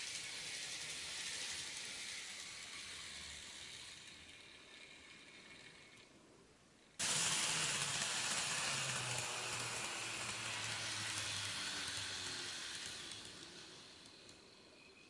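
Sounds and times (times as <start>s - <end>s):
model train motor hum: 0.0s - 15.0s
model train wheels rattling on rails: 0.0s - 15.0s.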